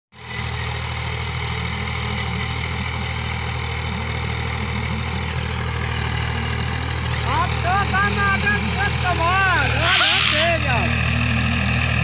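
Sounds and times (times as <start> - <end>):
tractor diesel engine running: 0.2 - 12.0.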